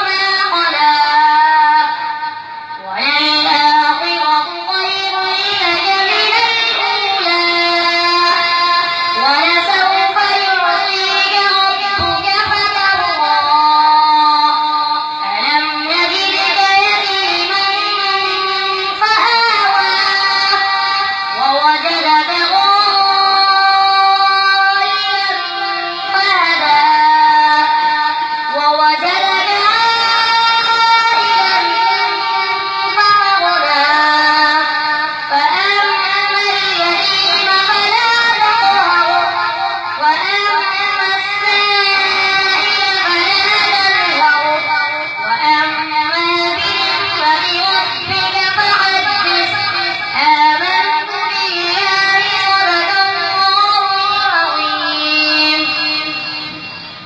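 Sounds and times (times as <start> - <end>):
person chanting a recitation: 0.0 - 56.2.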